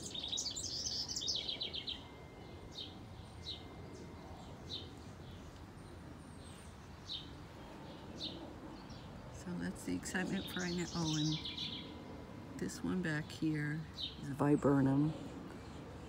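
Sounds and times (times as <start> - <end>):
faint background noise: 0.0 - 16.0
songbirds twittering and chirping: 0.0 - 16.0.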